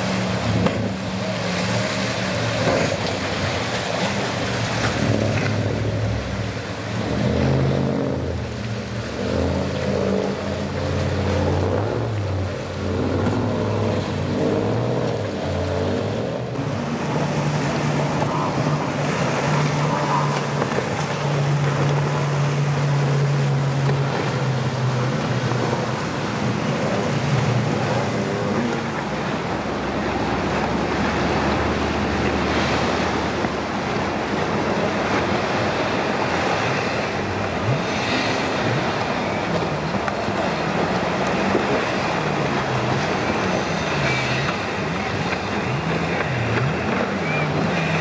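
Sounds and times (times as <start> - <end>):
powerboat engine drone: 0.0 - 48.0
waves rushing and splashing: 0.0 - 48.0.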